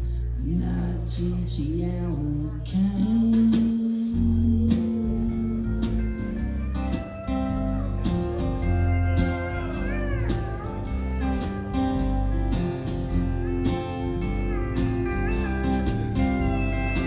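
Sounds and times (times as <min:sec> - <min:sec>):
strummed acoustic guitars: 0:00.0 - 0:17.0
slide guitar notes: 0:03.1 - 0:17.0.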